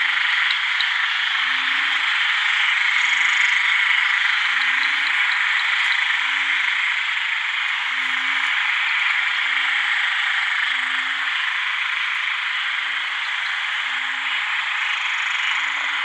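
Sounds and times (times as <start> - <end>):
frogs calling in chorus: 0.0 - 16.0.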